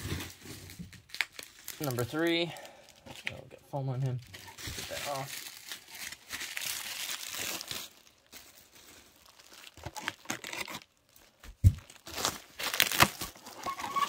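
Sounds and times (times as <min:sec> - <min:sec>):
packing foam crinkling and tearing: 0:00.0 - 0:03.4, 0:04.0 - 0:14.0.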